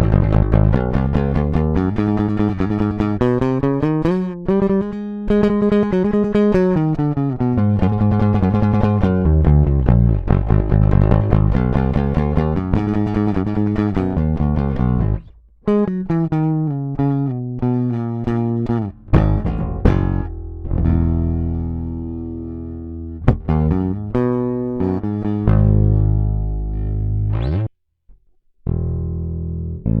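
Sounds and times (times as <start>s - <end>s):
bass guitar plucked: 0.0s - 27.7s, 28.6s - 30.0s.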